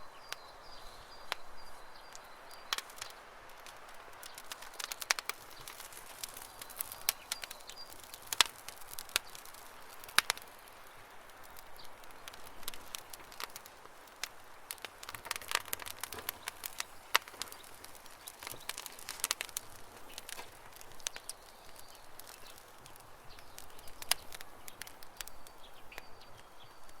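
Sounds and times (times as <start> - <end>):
campfire crackling and popping: 0.1 - 27.0.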